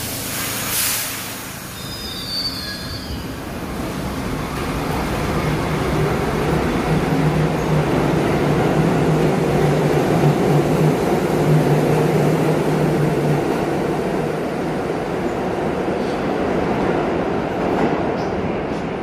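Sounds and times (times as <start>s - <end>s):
subway train rail rumble: 0.0s - 19.0s.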